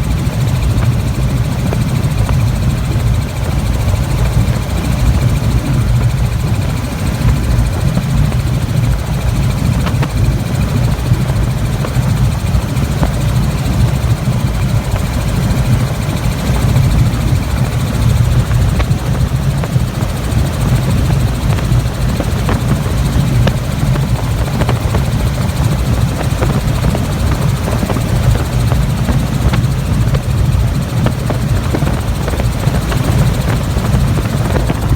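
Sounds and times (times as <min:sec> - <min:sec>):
helicopter rotor and engine: 0:00.0 - 0:34.9.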